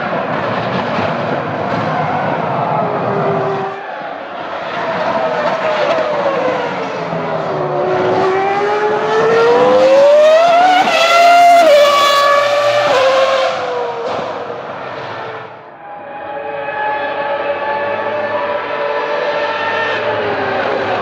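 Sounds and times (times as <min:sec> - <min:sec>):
racing car engine screaming: 0:00.0 - 0:21.0.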